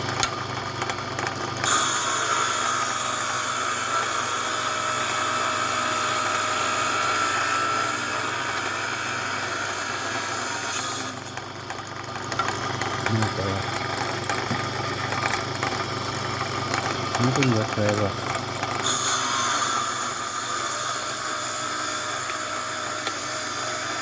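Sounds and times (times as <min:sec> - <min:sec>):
small grinding tool whining: 0:00.0 - 0:24.0.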